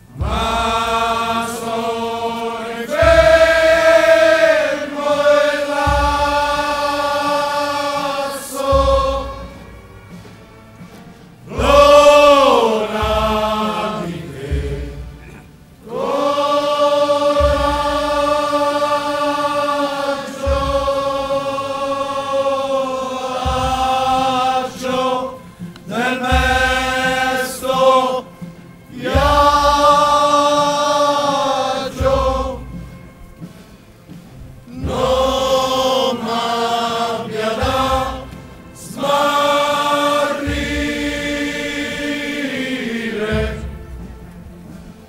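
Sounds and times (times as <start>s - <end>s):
men's choir chanting in unison: 0.0s - 10.2s, 10.8s - 45.0s.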